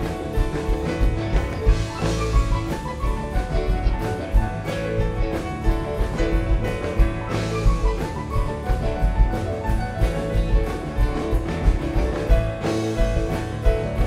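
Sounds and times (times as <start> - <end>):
drum kit beat: 0.0 - 14.0
live rock band: 0.0 - 14.0.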